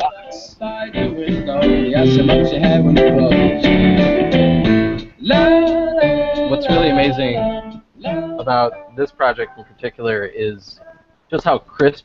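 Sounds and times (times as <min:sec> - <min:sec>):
guitar music through small speaker: 0:00.0 - 0:09.7.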